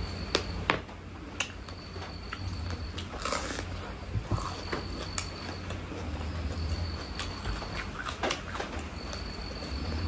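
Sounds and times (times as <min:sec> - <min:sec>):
faint steady hum: 0:00.0 - 0:10.0
person chewing food: 0:01.2 - 0:10.0.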